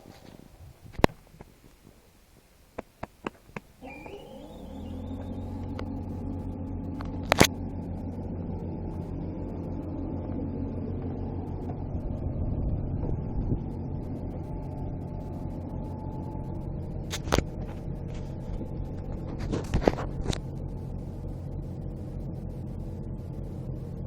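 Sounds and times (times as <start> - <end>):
diesel tractor engine starting: 3.7 - 24.0.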